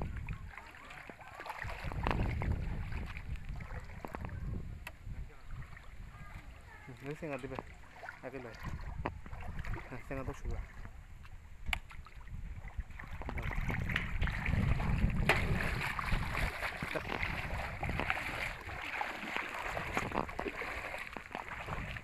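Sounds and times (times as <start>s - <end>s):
person wading through water: 0.0s - 22.0s.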